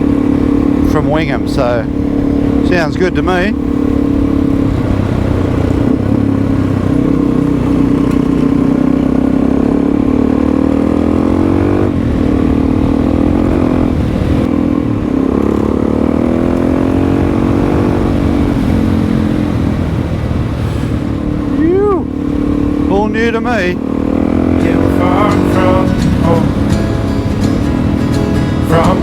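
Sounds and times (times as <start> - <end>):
dirt bike engine accelerating: 0.0 - 29.0.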